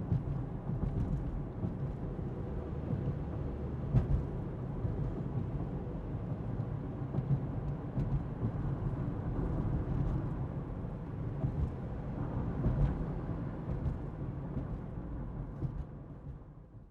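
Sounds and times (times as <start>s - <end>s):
suspension clicks and knocks: 0.0s - 10.5s, 11.2s - 16.6s
engine and tyre rumble: 0.0s - 16.9s.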